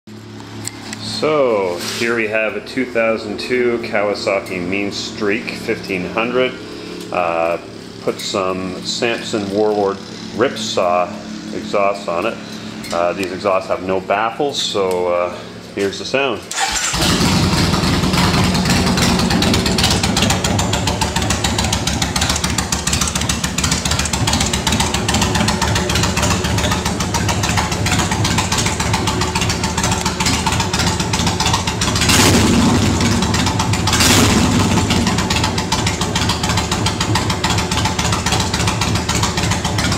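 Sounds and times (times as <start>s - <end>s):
engine throttle blips: 0.1s - 39.9s
motorcycle engine idling: 0.1s - 39.9s.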